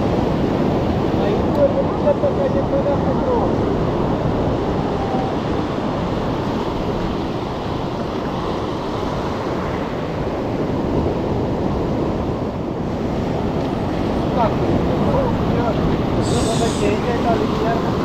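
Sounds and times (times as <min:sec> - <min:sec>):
ocean surf washing onto beach: 0:00.0 - 0:18.0
wind noise on microphone: 0:00.0 - 0:18.0.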